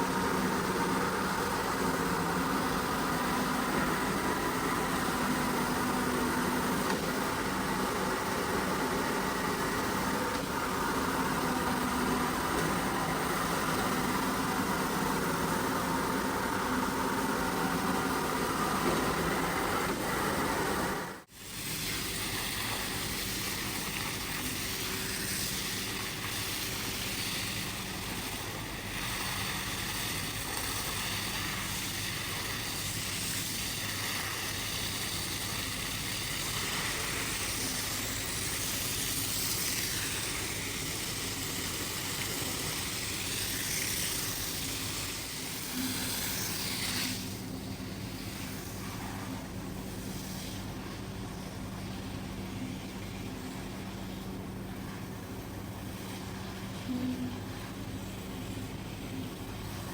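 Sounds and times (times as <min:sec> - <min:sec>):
machine hiss: 0:00.0 - 0:59.9.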